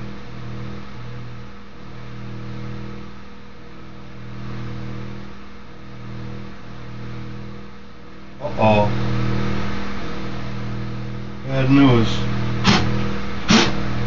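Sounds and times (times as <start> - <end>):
electric melter humming and buzzing: 0.0 - 14.0.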